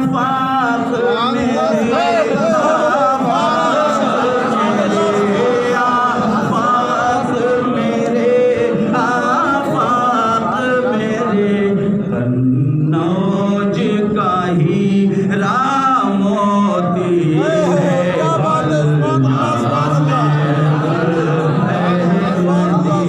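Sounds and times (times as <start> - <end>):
voices singing unaccompanied: 0.0 - 23.0.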